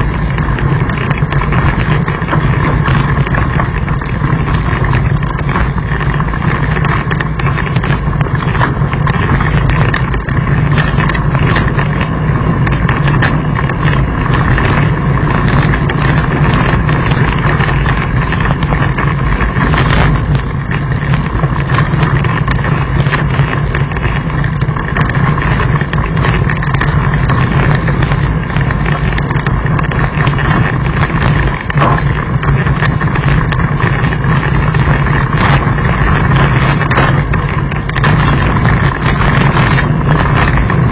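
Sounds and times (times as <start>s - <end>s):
bike tyres rattling over gravel: 0.0s - 40.9s
wind noise on microphone: 0.0s - 40.9s.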